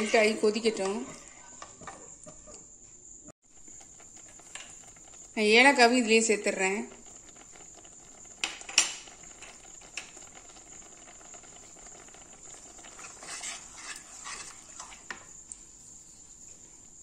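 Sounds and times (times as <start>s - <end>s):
wooden spoon stirring in a pan: 0.0s - 2.6s, 3.4s - 16.9s.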